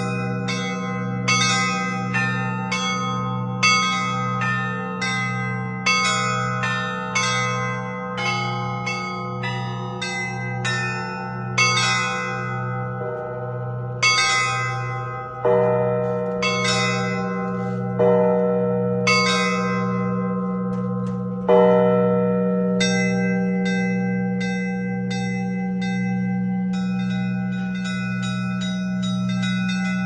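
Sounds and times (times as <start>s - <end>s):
large bell humming: 0.0s - 30.0s
small church bells struck: 0.0s - 30.0s.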